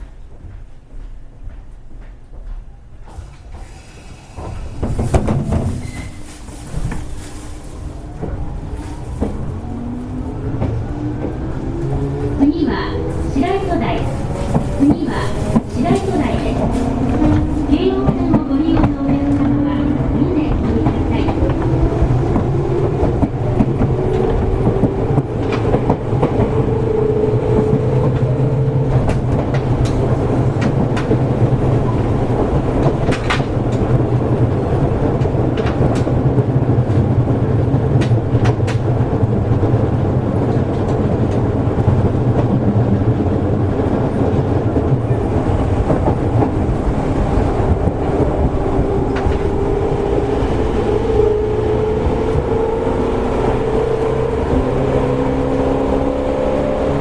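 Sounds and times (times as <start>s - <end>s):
train rumble: 0.0s - 57.0s
wheels clicking over rail joints: 0.2s - 57.0s.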